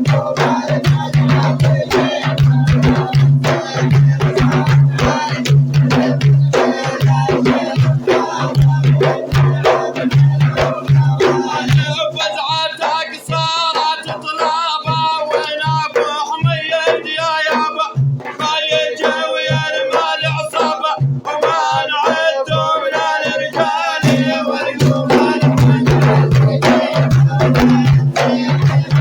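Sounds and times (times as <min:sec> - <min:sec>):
hand drum beats: 0:00.0 - 0:29.0
man singing a religious chant: 0:00.0 - 0:29.0.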